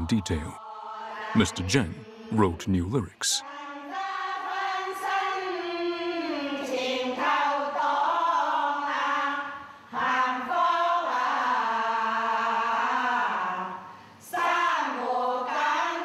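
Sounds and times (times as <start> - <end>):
women singing together: 0.0 - 2.3, 3.4 - 16.0.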